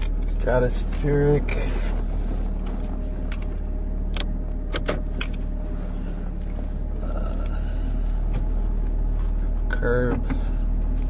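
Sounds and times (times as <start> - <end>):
low road rumble: 0.0 - 11.0.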